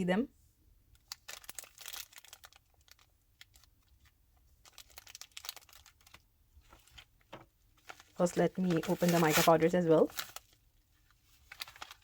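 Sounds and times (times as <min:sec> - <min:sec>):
plastic packaging crinkling: 0:01.0 - 0:12.0.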